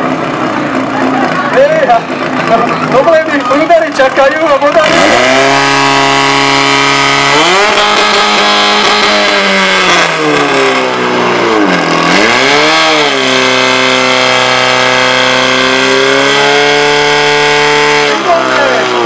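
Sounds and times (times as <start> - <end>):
pump engine running at high revs: 0.0 - 19.0.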